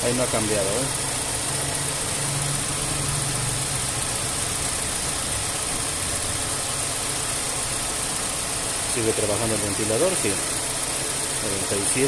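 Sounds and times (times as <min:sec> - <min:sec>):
car engine idling: 0:00.0 - 0:12.0
radiator fan rushing air: 0:00.0 - 0:12.0.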